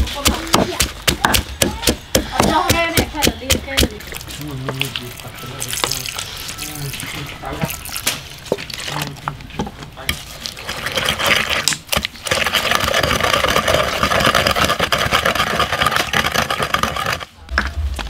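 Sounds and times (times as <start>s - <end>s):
pestle pounding in wooden mortar: 0.0s - 5.2s, 8.5s - 17.8s.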